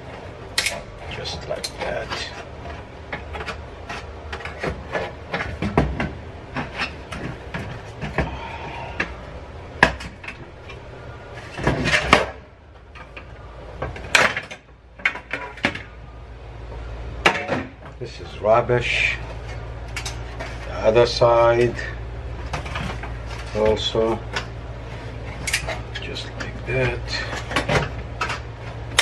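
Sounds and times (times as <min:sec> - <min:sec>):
plastic and sheet metal clatter: 0:00.0 - 0:08.4, 0:09.8 - 0:16.0, 0:17.2 - 0:29.0.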